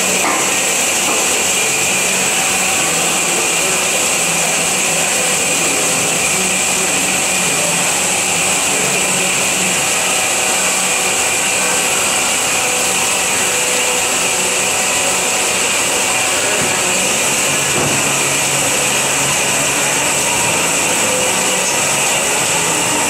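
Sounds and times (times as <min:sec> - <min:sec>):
band saw cutting metal bar: 0:00.0 - 0:23.0.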